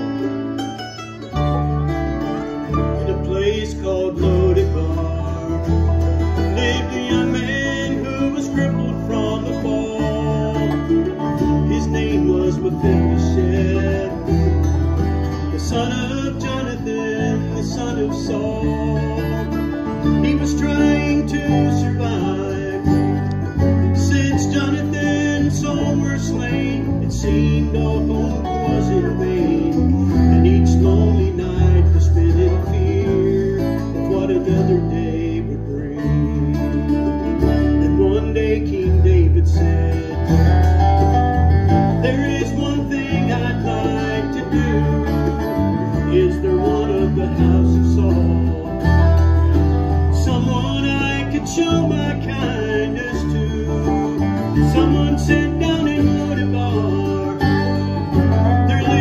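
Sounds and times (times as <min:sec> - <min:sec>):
banjo: 0:00.0 - 0:59.0
bass guitar low notes: 0:00.0 - 0:59.0
string band playing gospel: 0:00.0 - 0:59.0
strummed acoustic guitars: 0:00.0 - 0:59.0.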